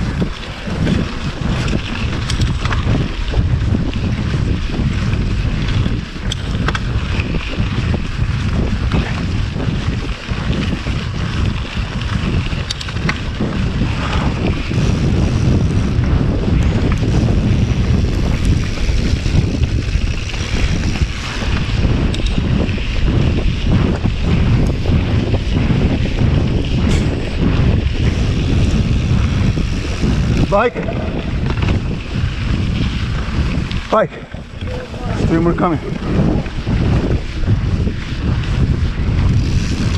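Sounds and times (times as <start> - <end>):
bike clicks and rattles: 0.0 - 39.9
tyres on dirt: 0.0 - 39.9
wind buffeting microphone: 0.0 - 39.9.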